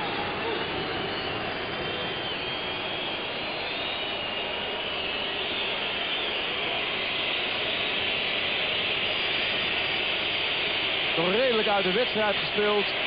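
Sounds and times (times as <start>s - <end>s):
high wavering whistles: 0.0s - 11.5s
stadium crowd roar: 0.0s - 13.0s.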